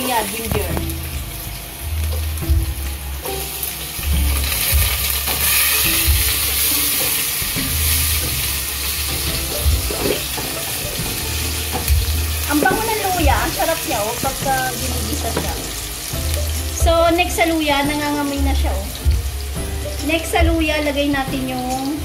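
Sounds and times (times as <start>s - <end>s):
ginger sizzling in hot oil: 0.0s - 22.0s.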